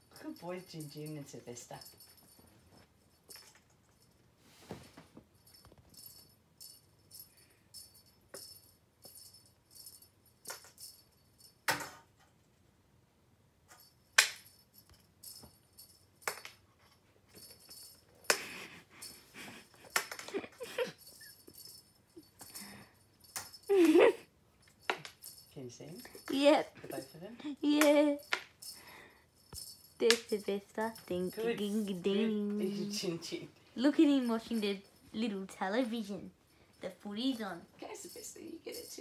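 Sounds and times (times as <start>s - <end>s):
light metallic jingling: 0.0s - 12.1s, 13.7s - 39.0s.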